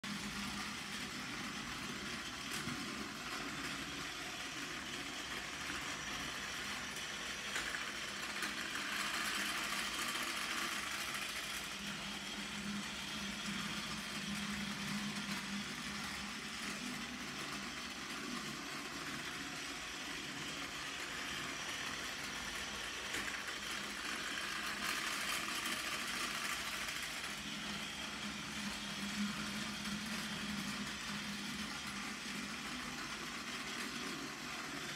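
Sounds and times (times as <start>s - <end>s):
toy train motor whirring: 0.1s - 34.9s.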